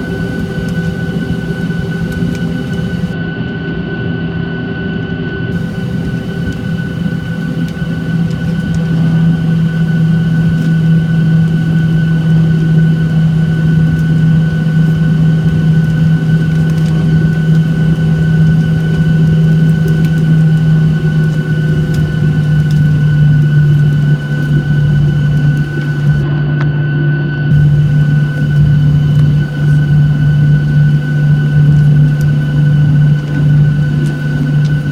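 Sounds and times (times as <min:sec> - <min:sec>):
jet engines running: 0:00.0 - 0:34.9.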